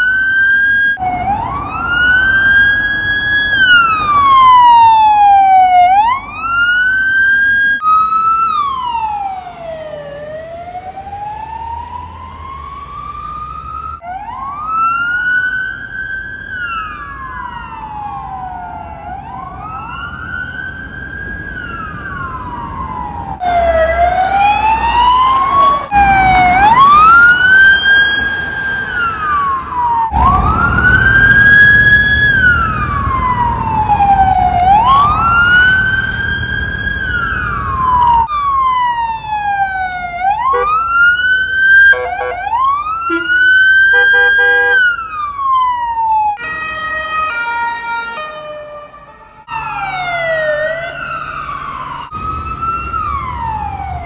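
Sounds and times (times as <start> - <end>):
ambulance sirens wailing: 0.0 - 54.0
siren stepped tones: 0.0 - 54.0.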